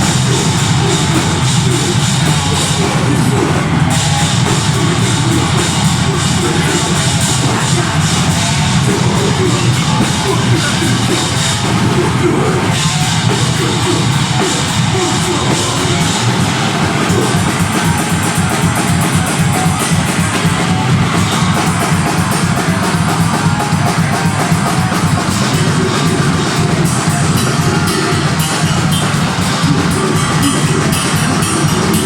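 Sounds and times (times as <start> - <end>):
heavy metal band playing live: 0.0 - 32.0
rapid drumming: 0.0 - 32.0.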